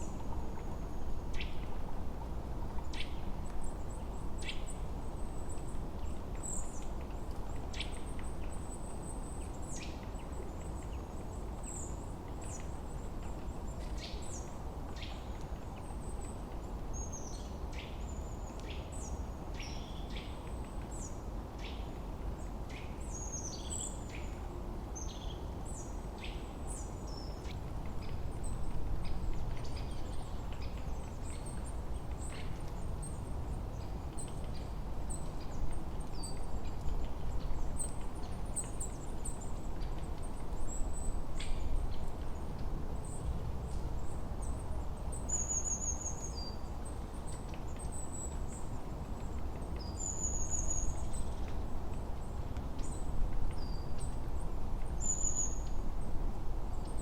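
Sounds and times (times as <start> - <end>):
low rush of wind: 0.0 - 57.0
songbirds chirping: 0.0 - 57.0.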